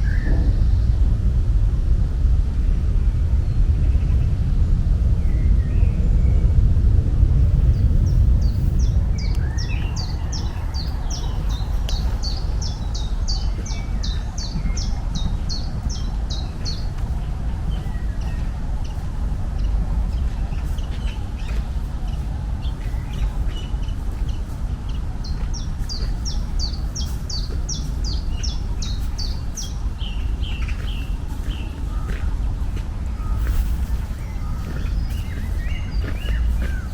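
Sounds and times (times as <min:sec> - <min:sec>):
songbird singing: 0:00.0 - 0:01.5, 0:02.2 - 0:06.6, 0:07.3 - 0:36.9
steady low rumble: 0:00.0 - 0:36.9.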